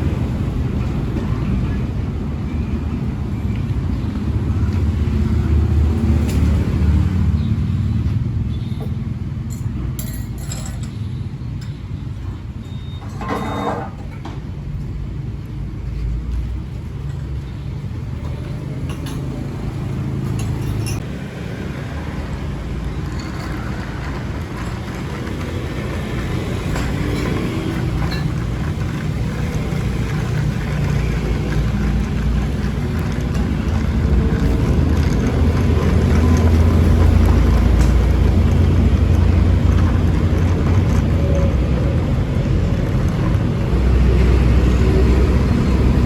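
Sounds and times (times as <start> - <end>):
motorbikes and cars passing: 0.0 - 12.6, 14.5 - 46.0
city traffic rumble: 0.0 - 46.0.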